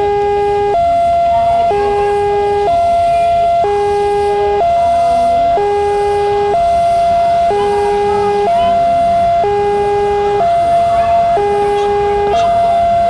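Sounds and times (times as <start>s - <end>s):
two-tone warning siren: 0.0s - 13.0s.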